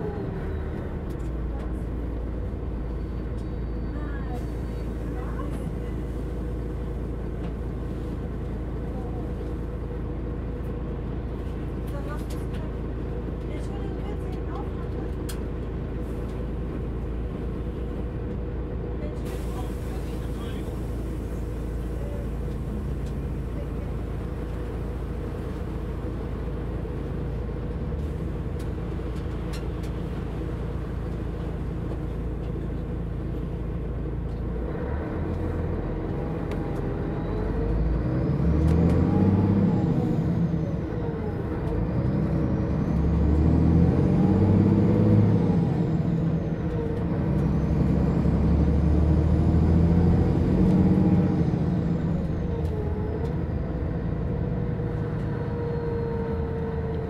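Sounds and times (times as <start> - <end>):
bus accelerating through gears: 0.0 - 57.0
bus engine idling: 0.0 - 57.0.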